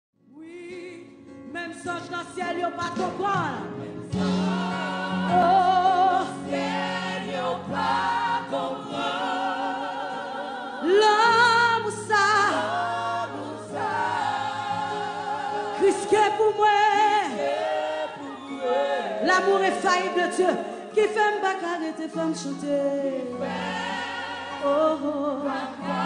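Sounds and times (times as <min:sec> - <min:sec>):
group of singers: 0:02.9 - 0:26.0.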